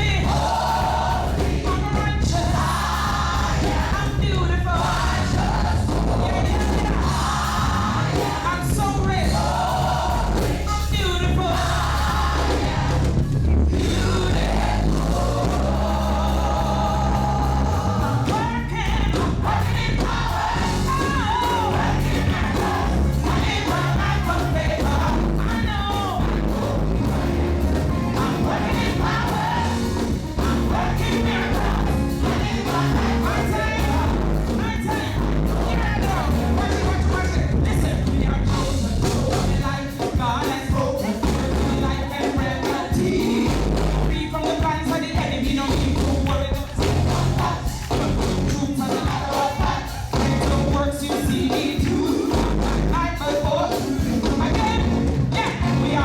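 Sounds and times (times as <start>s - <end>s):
band with heavy bass: 0.0s - 56.0s
people singing: 0.0s - 56.0s.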